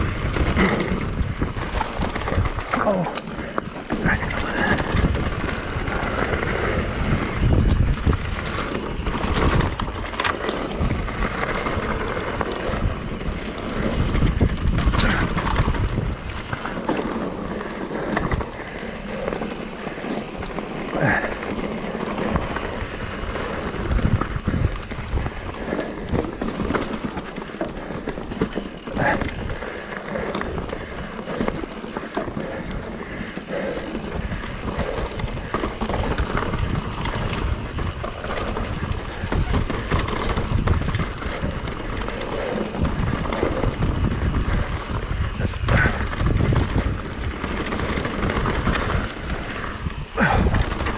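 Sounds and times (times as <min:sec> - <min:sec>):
bike knocks and rattles: 0:00.0 - 0:50.9
tyres rumbling on dirt: 0:00.0 - 0:50.9
wind buffeting microphone: 0:00.0 - 0:50.9.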